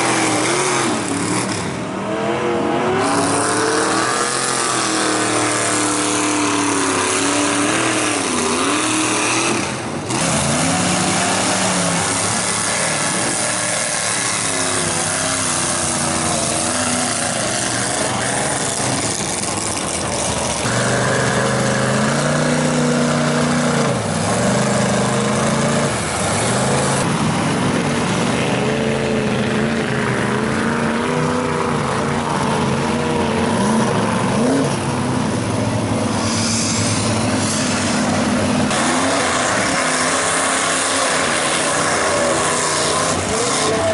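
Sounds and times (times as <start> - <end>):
truck engines revving: 0.0 - 43.9.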